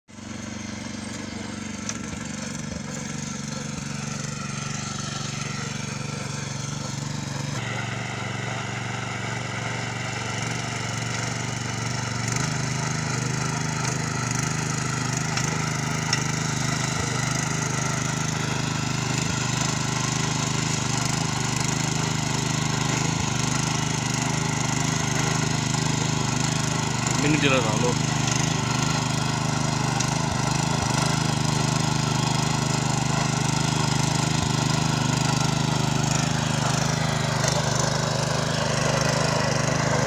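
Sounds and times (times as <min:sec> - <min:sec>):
tiller engine running: 0:00.1 - 0:40.0
tines churning soil: 0:00.1 - 0:40.0.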